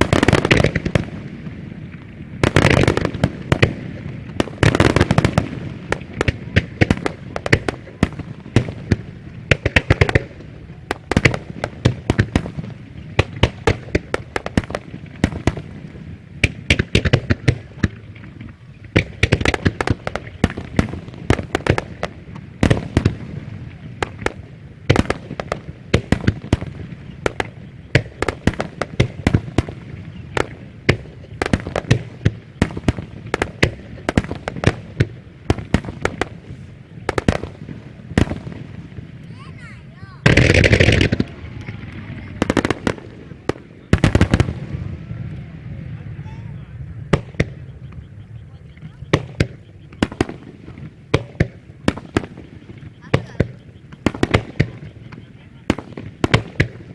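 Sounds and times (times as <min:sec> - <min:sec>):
fireworks bursting with bangs: 0:00.0 - 0:56.9.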